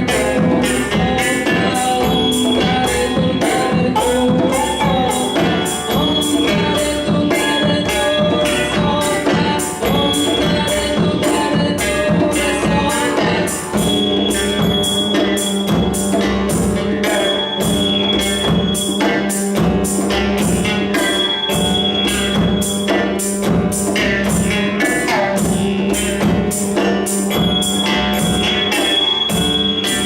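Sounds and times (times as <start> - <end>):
hand drums beating: 0.0 - 30.0.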